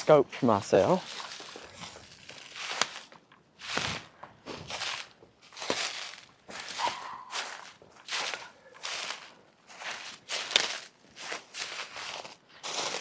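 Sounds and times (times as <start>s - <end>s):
footsteps on ground: 0.0s - 13.0s.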